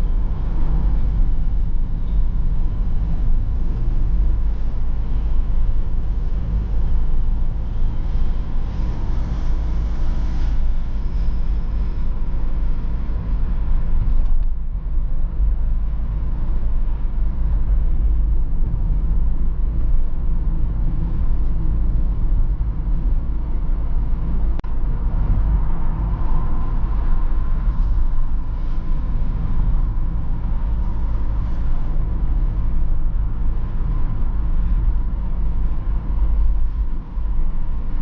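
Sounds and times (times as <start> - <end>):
tyre road rumble: 0.0 - 38.0.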